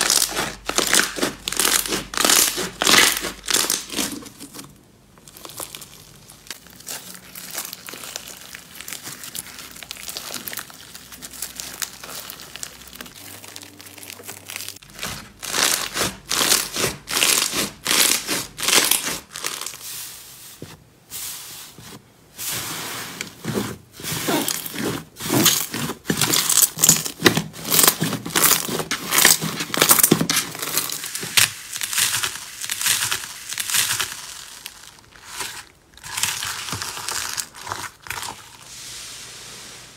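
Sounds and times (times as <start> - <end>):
crunchy slime crackling: 0.0 - 19.9, 24.2 - 38.7.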